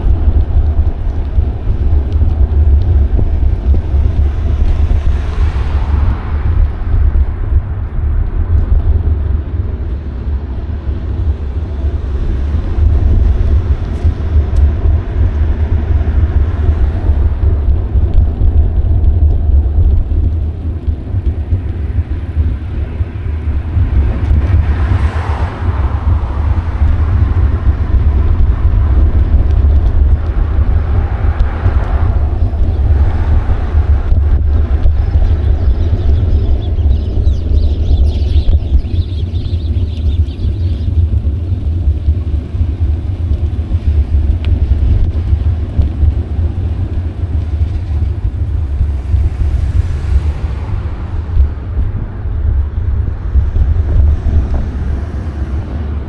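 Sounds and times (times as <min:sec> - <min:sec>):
bicycle tyre and road noise: 0:00.0 - 0:56.0
wind rumble on microphone: 0:00.0 - 0:56.0.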